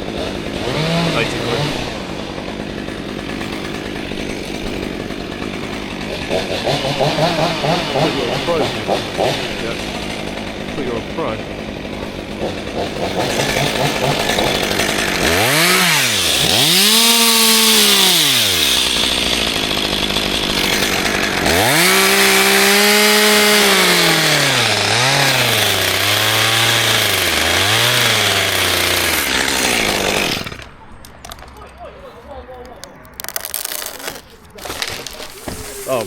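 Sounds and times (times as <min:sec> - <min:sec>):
chainsaw revving and cutting: 0:00.0 - 0:30.7, 0:33.2 - 0:36.0.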